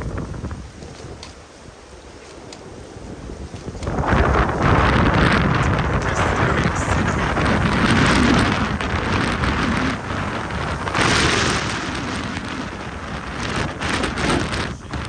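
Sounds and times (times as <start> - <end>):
wind buffeting microphone: 0.0 - 15.0
hiss of blowing snow: 1.6 - 15.0.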